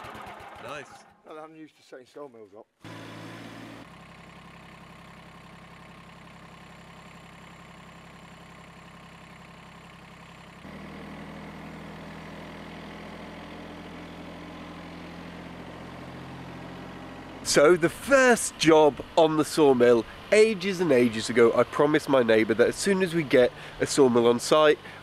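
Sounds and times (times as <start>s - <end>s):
tractor engine idling: 0.0s - 1.1s, 3.8s - 25.0s.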